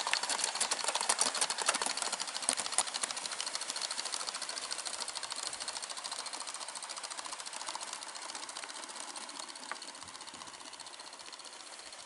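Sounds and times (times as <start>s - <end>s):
model train wheels clicking: 0.0s - 12.0s.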